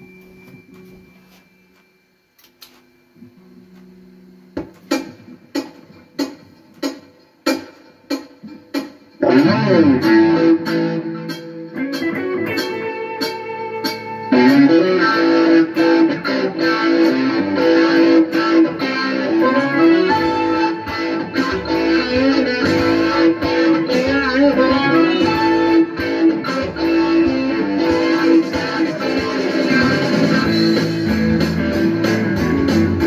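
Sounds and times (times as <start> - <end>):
electric guitar playing: 3.4 - 33.0.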